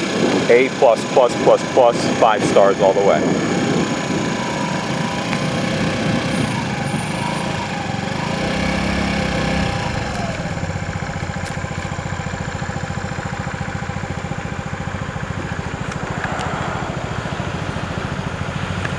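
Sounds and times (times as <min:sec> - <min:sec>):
vehicle engine running: 0:00.0 - 0:18.9.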